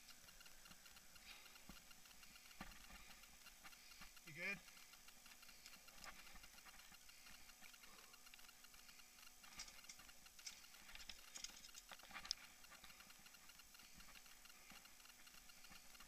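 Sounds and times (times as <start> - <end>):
bike clicks and rattles: 0.0 - 16.0.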